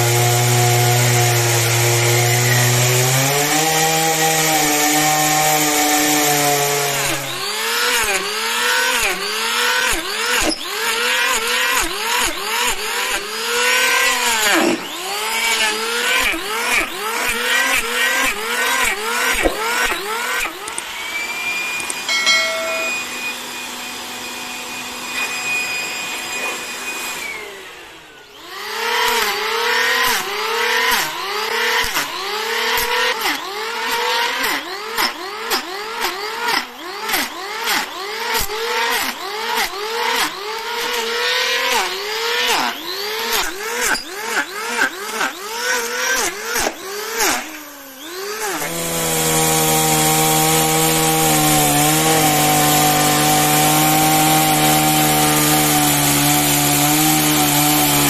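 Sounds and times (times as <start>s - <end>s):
electric hand planer shaving wood: 0.0s - 58.0s.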